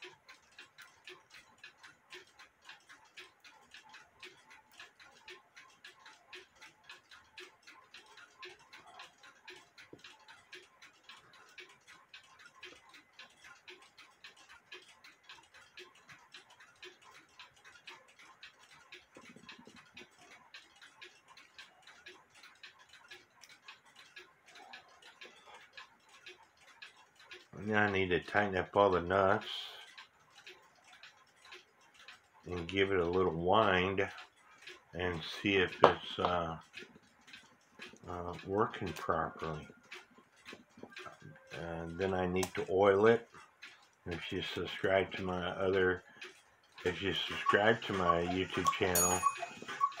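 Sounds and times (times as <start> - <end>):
mechanical clock ticking: 0.0 - 50.0.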